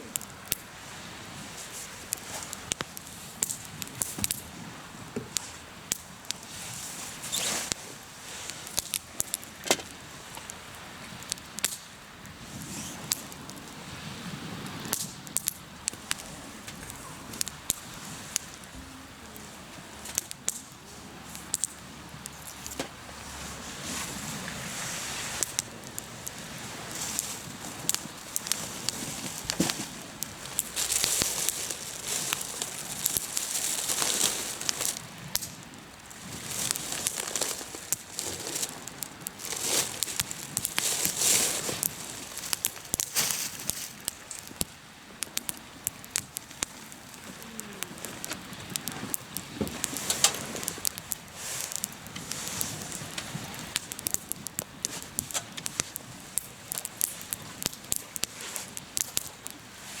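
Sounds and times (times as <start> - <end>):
campfire crackling and popping: 0.0 - 60.0
rushing hiss of fire: 0.0 - 60.0.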